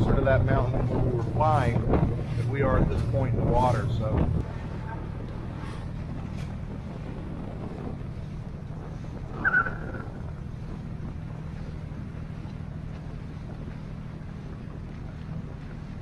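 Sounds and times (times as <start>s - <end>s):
boat engine humming: 0.0s - 16.0s
water wash and wind: 0.0s - 16.0s.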